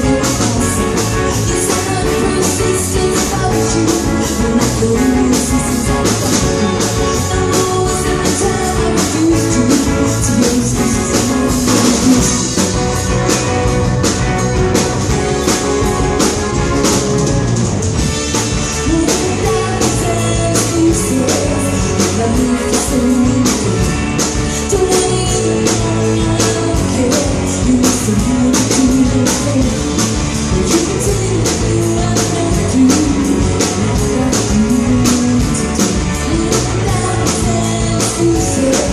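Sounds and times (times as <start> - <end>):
band playing rock song: 0.0 - 38.9.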